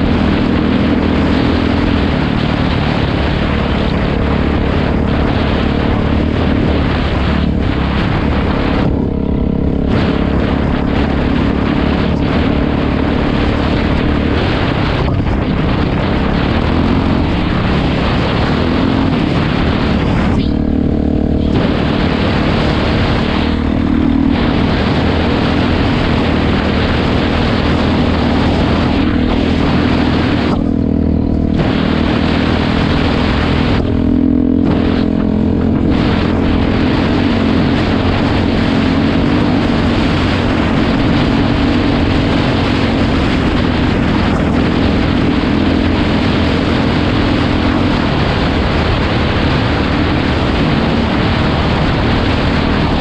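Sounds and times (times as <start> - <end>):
dirt bike engine running hard: 0.0 - 53.0
wind on microphone: 0.0 - 53.0.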